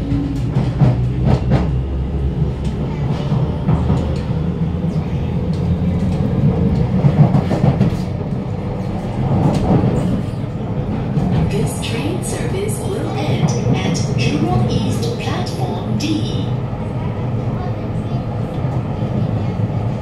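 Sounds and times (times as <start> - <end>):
metro train motor rumble: 0.0 - 20.0.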